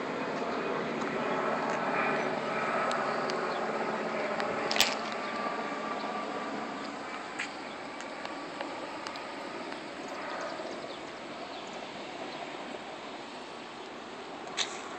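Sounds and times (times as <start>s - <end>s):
outdoor background noise: 0.0s - 14.9s.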